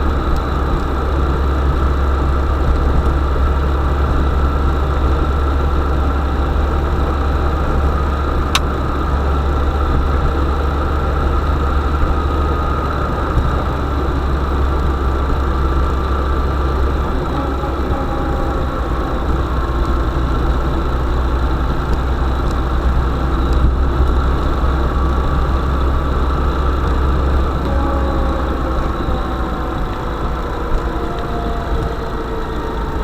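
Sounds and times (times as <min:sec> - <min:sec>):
van engine humming: 0:00.0 - 0:33.0.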